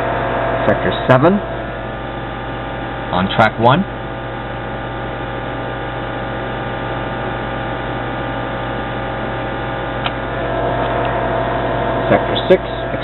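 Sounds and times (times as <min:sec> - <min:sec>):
computer equipment humming: 0:00.0 - 0:13.0.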